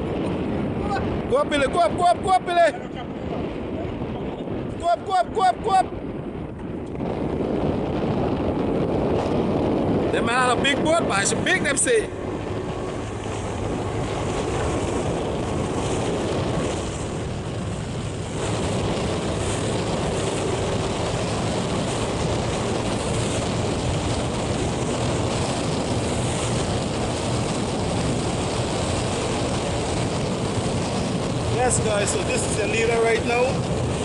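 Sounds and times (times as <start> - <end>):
water rushing past boat: 0.0 - 34.0
wind buffeting microphone: 0.0 - 34.0
boat engine droning: 6.4 - 34.0.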